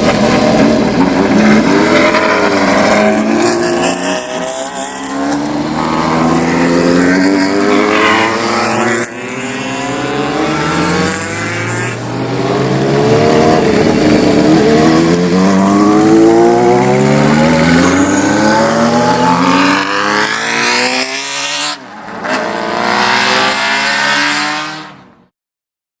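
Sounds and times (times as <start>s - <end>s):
motorcycle engines accelerating: 0.0s - 24.8s.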